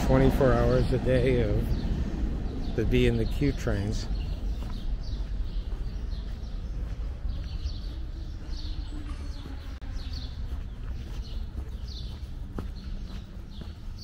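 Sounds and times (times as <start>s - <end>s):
bird chirping: 0.0s - 14.0s
steady low rumble: 0.0s - 14.0s.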